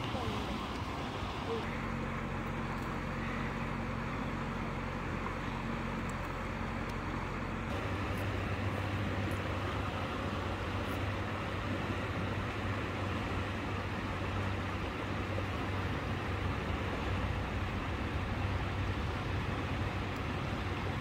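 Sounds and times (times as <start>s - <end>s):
constant background noise: 0.0s - 21.0s
engine humming: 0.0s - 21.0s.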